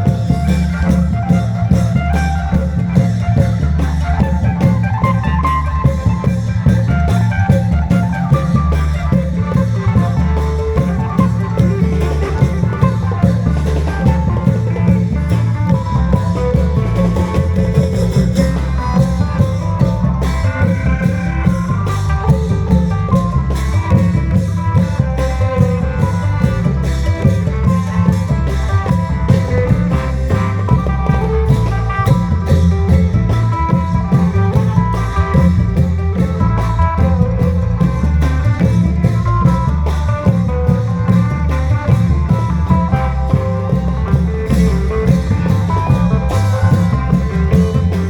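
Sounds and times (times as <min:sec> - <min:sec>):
drum band playing: 0:00.0 - 0:48.0.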